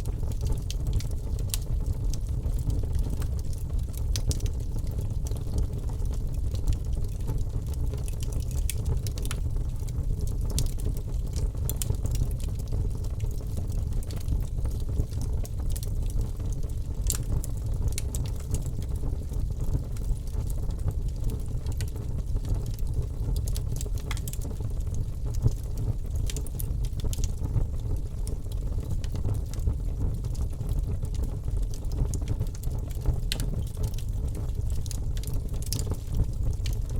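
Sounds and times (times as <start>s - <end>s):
crackles and pops of fire: 0.0s - 36.9s
fire burning in fireplace: 0.0s - 36.9s.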